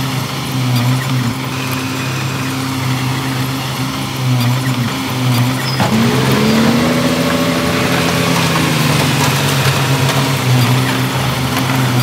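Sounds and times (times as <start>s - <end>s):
heavy machine diesel engine running: 0.0s - 12.0s.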